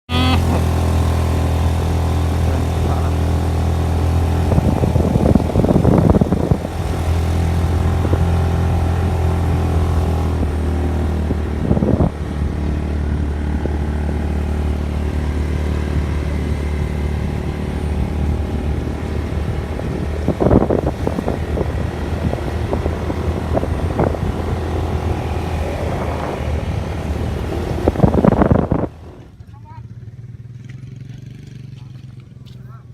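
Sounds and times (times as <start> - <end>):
engine running steadily: 0.1 - 32.9.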